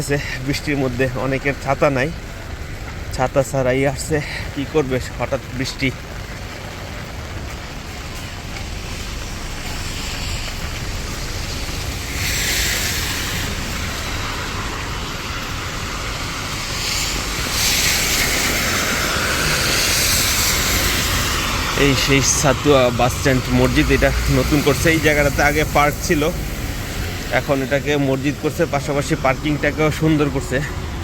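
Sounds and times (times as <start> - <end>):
heavy rain on wet street: 0.0 - 31.0
wind rumbling on microphone: 5.4 - 31.0.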